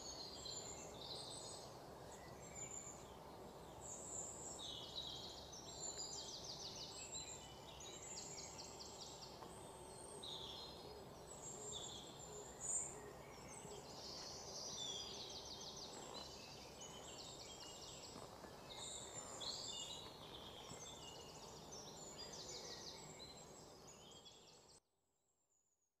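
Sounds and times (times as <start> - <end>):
low background hiss: 0.0 - 24.8.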